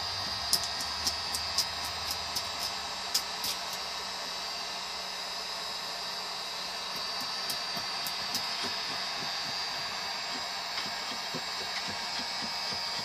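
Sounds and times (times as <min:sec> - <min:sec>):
heat gun blowing with whine: 0:00.0 - 0:13.0.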